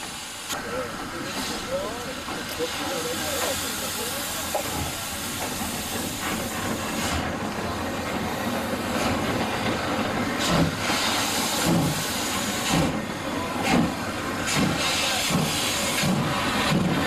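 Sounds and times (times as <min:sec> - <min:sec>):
steam hissing: 0:00.0 - 0:17.0
steam locomotive exhaust chuffs: 0:00.0 - 0:17.0.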